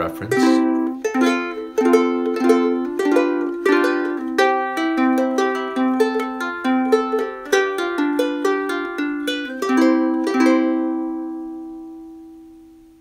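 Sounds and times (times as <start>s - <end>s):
ukulele plucked tune: 0.0s - 13.0s.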